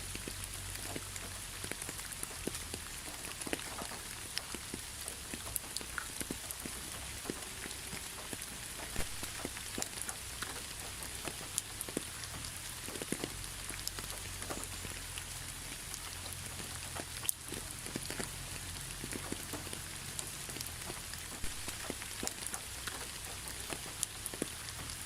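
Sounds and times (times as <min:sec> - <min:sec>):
rain hiss: 0:00.0 - 0:25.0
raindrops ticking on a surface: 0:00.0 - 0:25.0.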